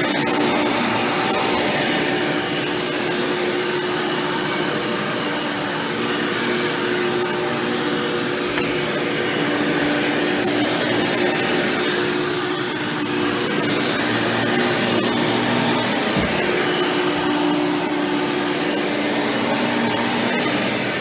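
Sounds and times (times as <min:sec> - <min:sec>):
upright vacuum cleaner running: 0:00.0 - 0:21.0.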